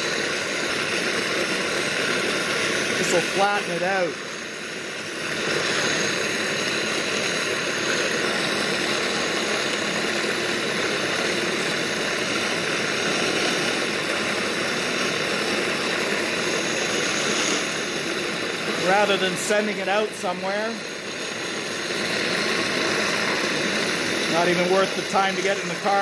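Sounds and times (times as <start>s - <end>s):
electric motor whirring: 0.0s - 26.0s.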